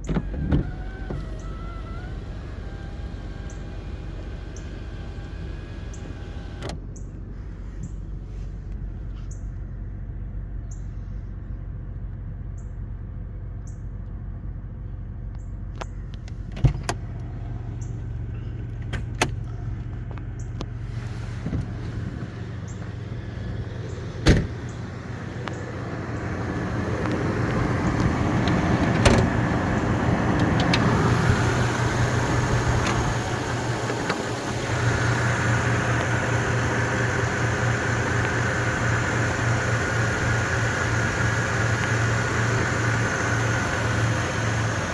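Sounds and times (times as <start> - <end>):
car engine running: 0.0 - 10.3, 15.6 - 44.9.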